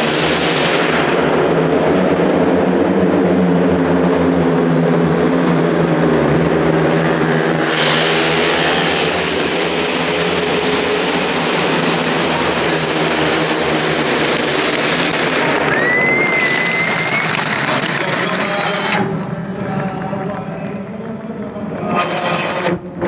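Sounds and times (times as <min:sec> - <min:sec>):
motorcycle engines racing loudly: 0:00.0 - 0:23.0.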